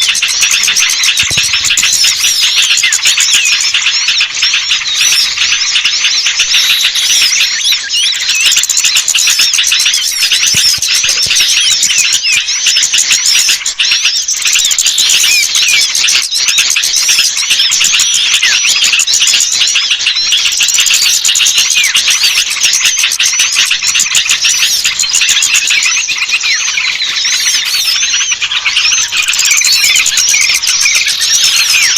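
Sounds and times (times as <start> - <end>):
small birds twittering: 0.0 - 31.9.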